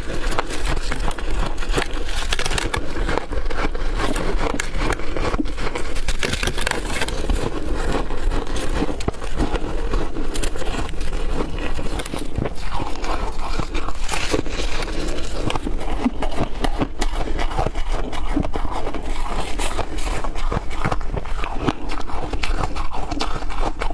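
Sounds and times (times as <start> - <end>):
ice being crunched by teeth: 0.0 - 23.9.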